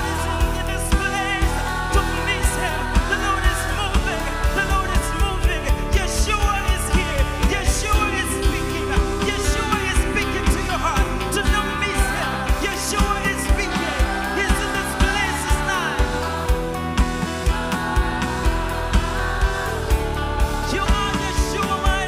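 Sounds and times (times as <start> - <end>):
electric bass: 0.0 - 22.0
people singing: 0.0 - 22.0.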